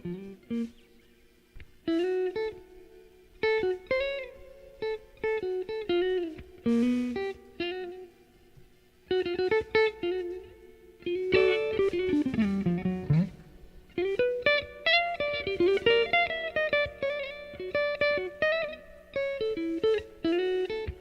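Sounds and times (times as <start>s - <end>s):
electric guitar blues phrases: 0.0s - 21.0s.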